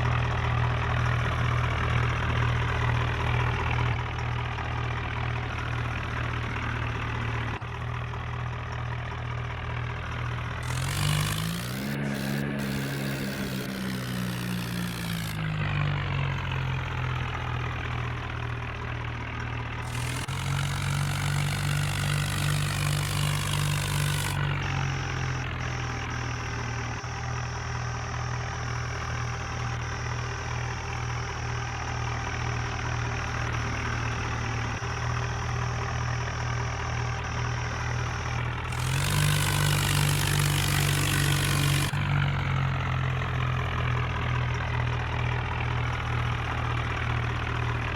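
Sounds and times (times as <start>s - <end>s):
tractor diesel engine revving: 0.0s - 47.9s.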